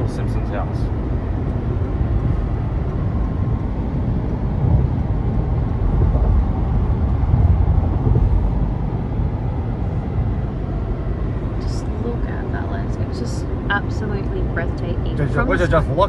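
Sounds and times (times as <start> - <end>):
tyre and wind road rumble: 0.0 - 16.0.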